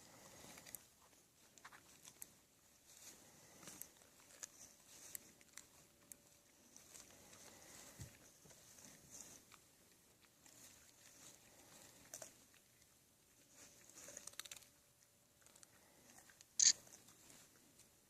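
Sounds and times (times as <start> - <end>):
bears chewing peanuts: 0.0 - 18.0.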